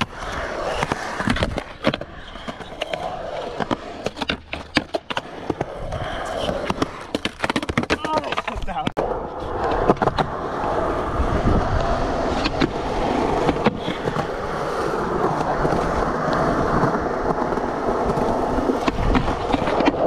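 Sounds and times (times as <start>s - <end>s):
skateboard clacks: 0.0s - 20.0s
skateboard grinding on ledge: 0.0s - 20.0s
skateboard wheels rolling on concrete: 0.0s - 20.0s.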